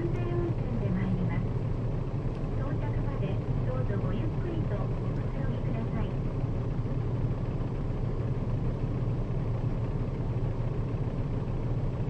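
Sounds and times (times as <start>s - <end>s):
bus diesel engine drone: 0.0s - 12.0s.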